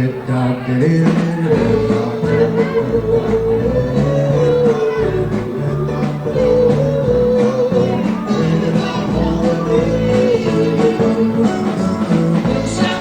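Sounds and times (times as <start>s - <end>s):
guitar: 0.0s - 13.0s
bass notes: 0.8s - 13.0s
live band playing doo-wop: 0.8s - 13.0s
held melody line: 1.0s - 13.0s.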